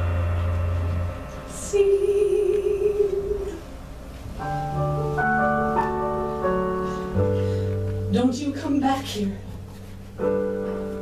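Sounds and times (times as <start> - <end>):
bass: 0.0 - 11.0
piano chords: 0.0 - 11.0.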